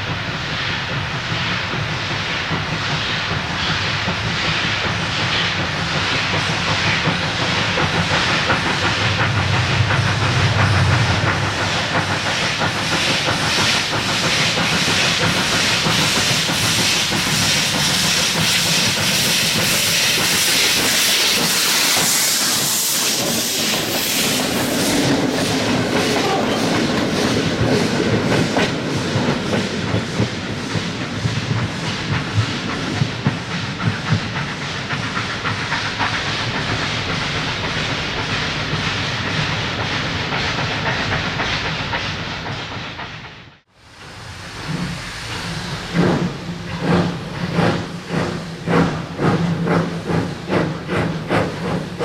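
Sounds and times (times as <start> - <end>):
loud hiss of steam: 0.0 - 52.0
train clattering on rails: 0.0 - 52.0.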